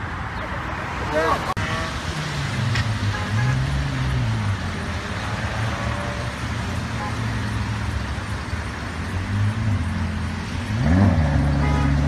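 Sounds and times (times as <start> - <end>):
car engines in slow traffic: 0.4 - 12.0.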